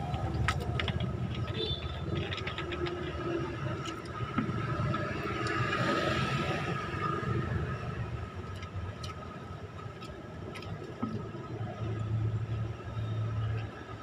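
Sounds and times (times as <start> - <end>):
traffic rumbling: 0.0 - 14.0.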